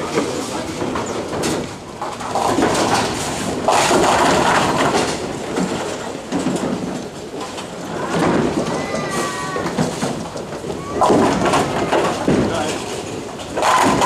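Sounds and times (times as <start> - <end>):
bowling balls rolling: 0.0 - 14.0
bowling pins crashing: 0.3 - 14.0.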